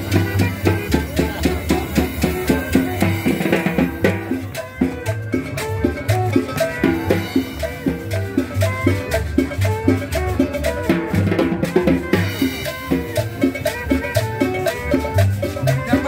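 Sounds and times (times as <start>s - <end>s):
band playing dance music: 0.0s - 16.0s.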